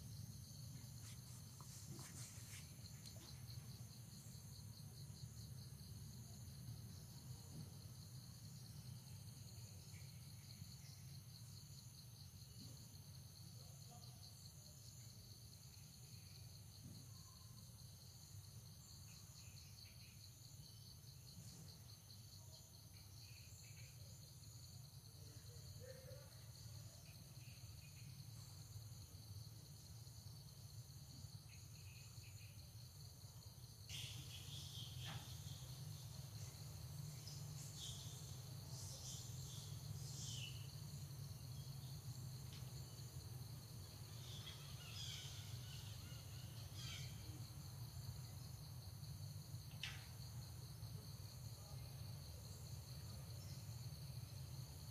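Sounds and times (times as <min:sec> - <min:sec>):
insects chirring: 0:00.0 - 0:54.9.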